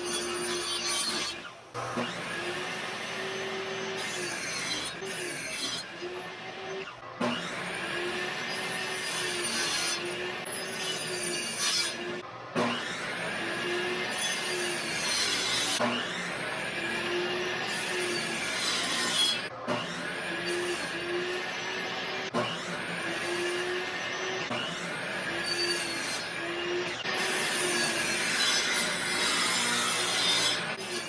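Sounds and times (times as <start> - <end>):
tool rasping wood: 0.0 - 12.2, 12.8 - 31.0.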